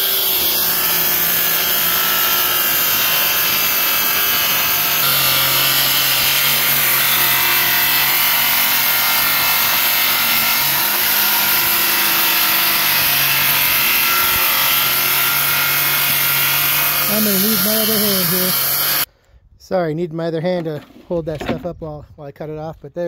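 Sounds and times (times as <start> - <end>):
circular saw cutting plywood: 0.0 - 19.1.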